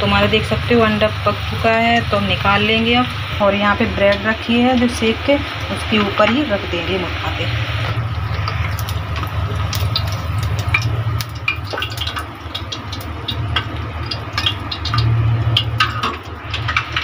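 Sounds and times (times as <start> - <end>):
hot oil crackling and popping: 0.0 - 17.0
steady low hum: 0.0 - 17.0.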